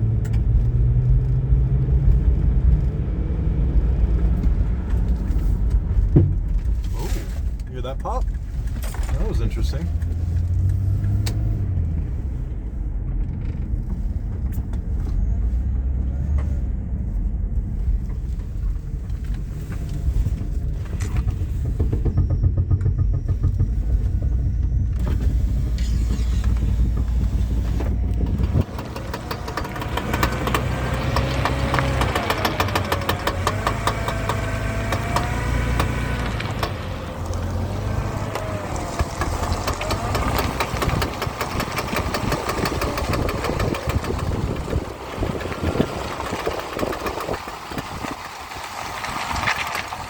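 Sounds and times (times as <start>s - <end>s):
low drivetrain rumble: 0.0s - 50.0s.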